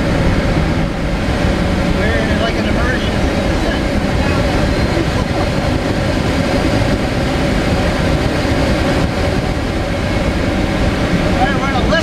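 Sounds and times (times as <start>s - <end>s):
airflow rushing over glider: 0.0s - 12.0s.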